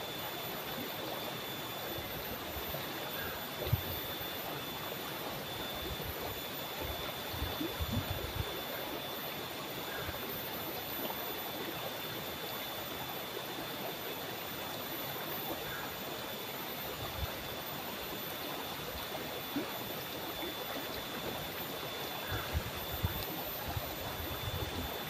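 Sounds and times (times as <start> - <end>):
low water gurgles: 0.0 - 25.0
river flowing over stones: 0.0 - 25.0.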